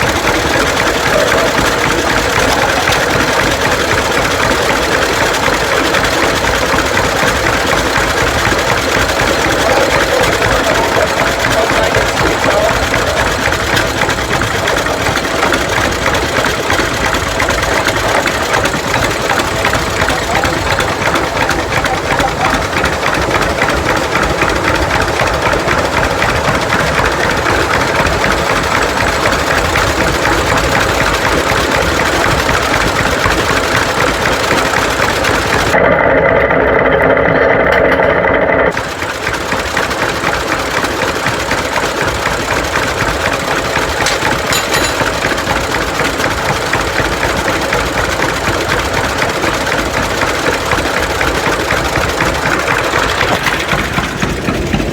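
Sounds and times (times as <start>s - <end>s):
tractor engine running: 0.0s - 35.8s, 37.7s - 54.9s.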